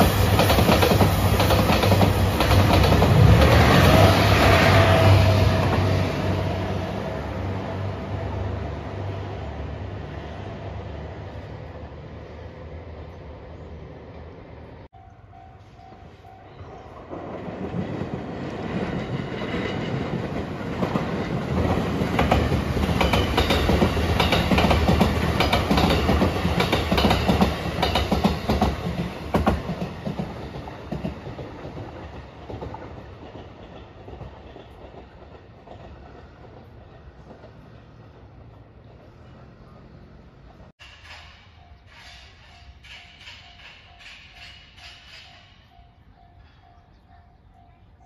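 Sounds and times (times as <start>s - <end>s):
train passing close by: 0.0s - 48.0s.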